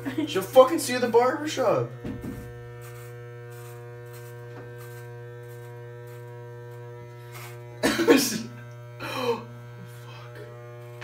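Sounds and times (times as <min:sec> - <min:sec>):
electric hair clippers buzzing: 0:00.0 - 0:11.0.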